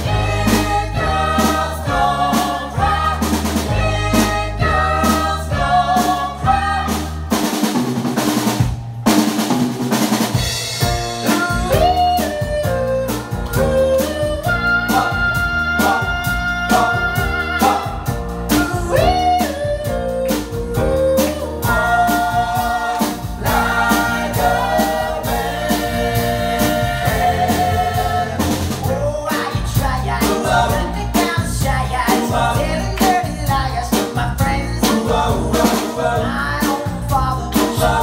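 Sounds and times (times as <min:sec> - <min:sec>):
vocal group singing in harmony: 0:00.0 - 0:07.5, 0:11.1 - 0:38.0
drums keeping a steady beat: 0:00.0 - 0:38.0
electric bass: 0:00.0 - 0:38.0.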